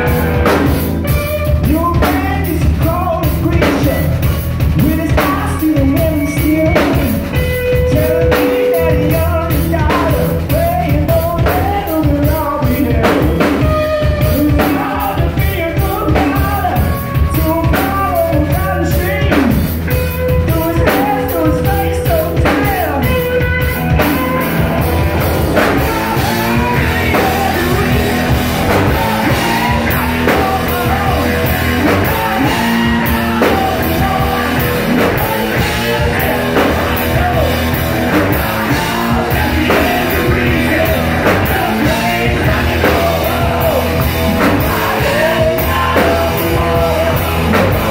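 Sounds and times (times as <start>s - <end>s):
man singing: 0.0s - 47.9s
rock band playing: 0.0s - 47.9s.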